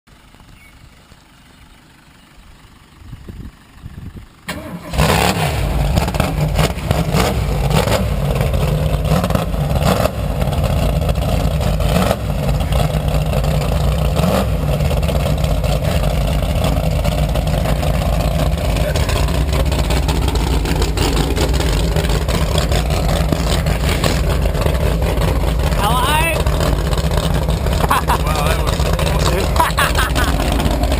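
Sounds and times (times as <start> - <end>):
car engine starting and idling: 0.1 - 30.9
engine throttle blips: 0.1 - 30.9.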